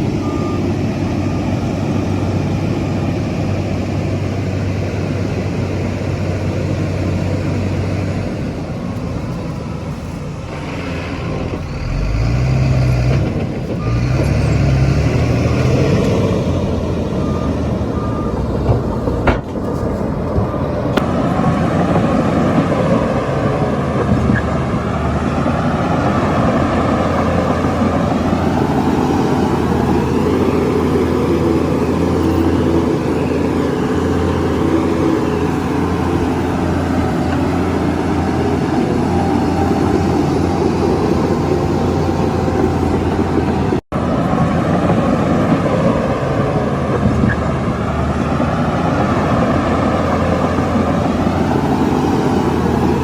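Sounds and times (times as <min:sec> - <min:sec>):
diesel machinery running: 0:00.0 - 0:53.0.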